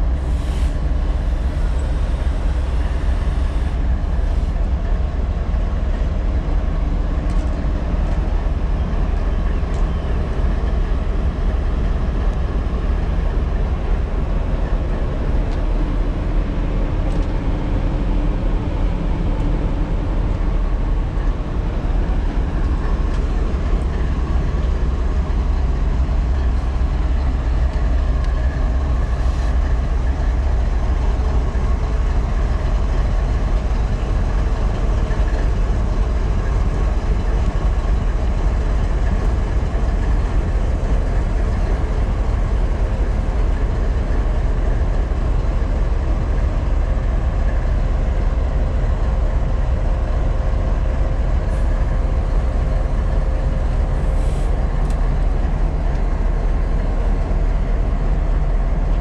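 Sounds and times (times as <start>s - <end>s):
locomotive engine droning: 0.0s - 59.0s.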